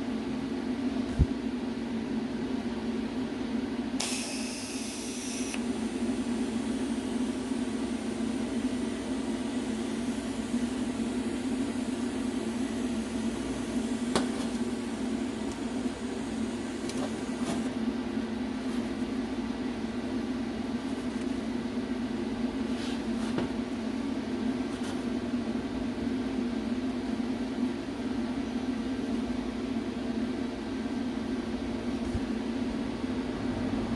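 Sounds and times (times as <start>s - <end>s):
mechanical hum: 0.0s - 33.9s.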